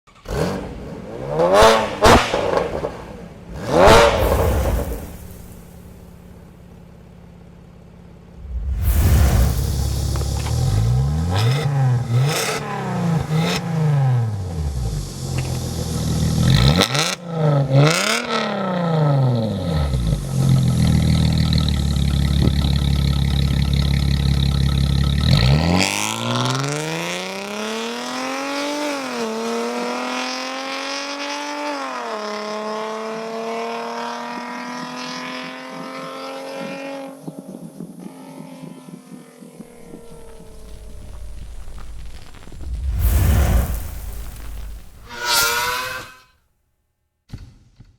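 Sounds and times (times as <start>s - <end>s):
car engine revving and accelerating: 0.1s - 5.8s, 8.4s - 44.5s.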